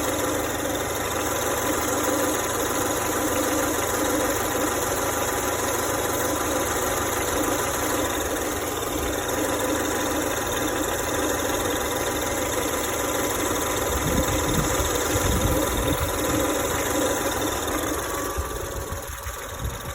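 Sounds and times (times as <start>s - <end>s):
car engine running: 0.0s - 19.9s
uneven clacking inside engine: 0.0s - 19.9s.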